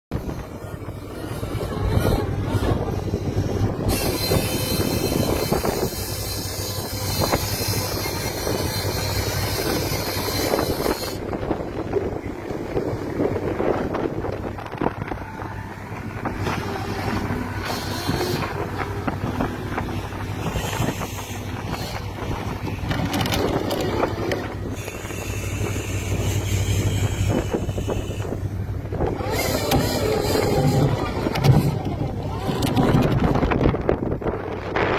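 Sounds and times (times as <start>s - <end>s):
boat engine humming: 0.1s - 34.9s
wind buffeting microphone: 0.1s - 34.9s.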